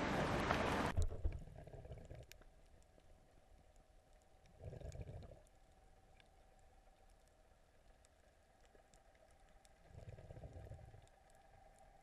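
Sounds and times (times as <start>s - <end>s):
faint clicks: 2.0s - 12.0s.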